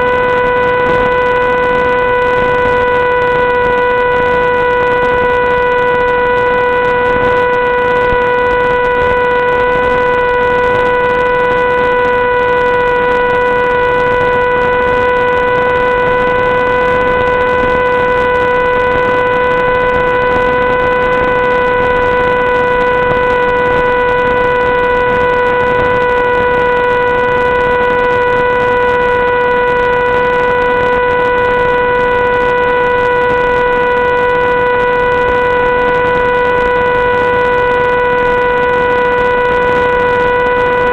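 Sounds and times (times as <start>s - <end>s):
steady buzzing tone: 0.0s - 40.9s.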